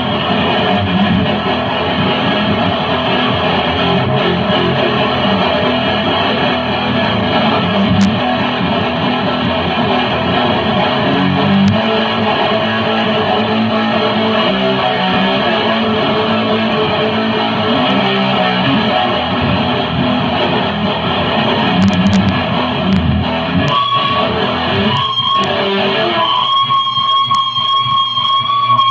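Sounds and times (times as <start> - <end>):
loud guitar playing: 0.0 - 28.9.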